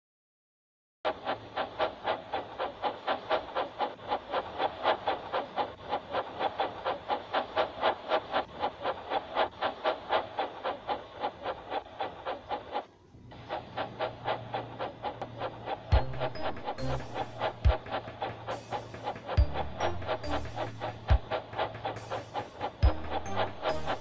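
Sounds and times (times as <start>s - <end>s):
steam locomotive chuffing: 1.1s - 24.0s.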